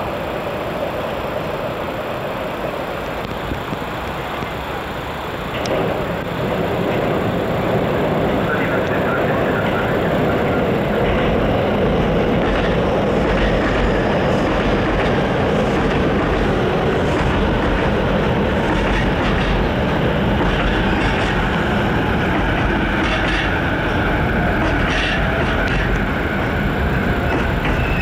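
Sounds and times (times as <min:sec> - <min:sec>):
electric train pulling in: 0:00.0 - 0:28.0
wheels rolling over rails: 0:00.1 - 0:28.0.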